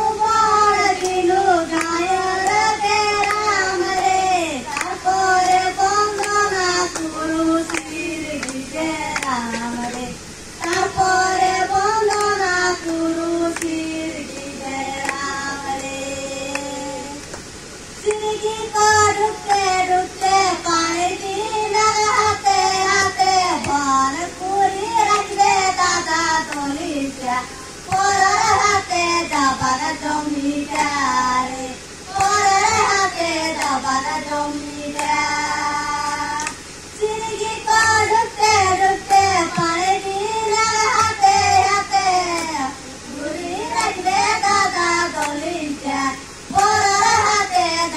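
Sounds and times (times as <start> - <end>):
girl singing unaccompanied: 0.0 - 17.3, 18.0 - 47.9.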